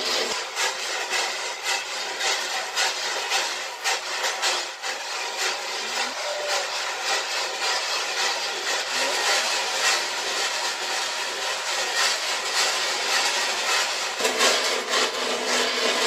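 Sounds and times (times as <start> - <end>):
kernels scraping in a pan: 0.0 - 16.0.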